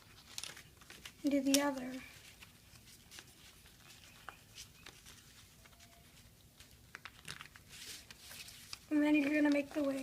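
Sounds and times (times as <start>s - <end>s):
paper rustling and creasing: 0.0s - 10.0s.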